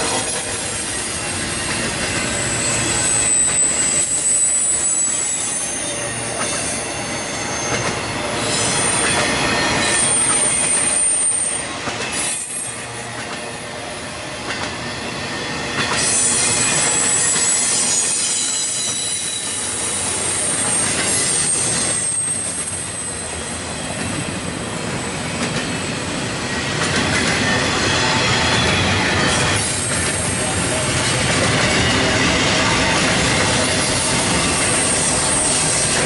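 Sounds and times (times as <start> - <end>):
high wheel squeal: 0.0 - 13.1, 14.8 - 24.1, 27.3 - 36.0
train wheels rumbling on rails: 0.0 - 36.0.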